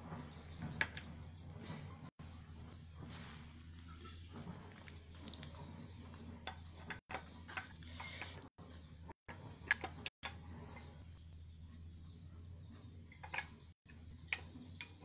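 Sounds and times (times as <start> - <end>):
insects trilling: 0.1 - 15.0.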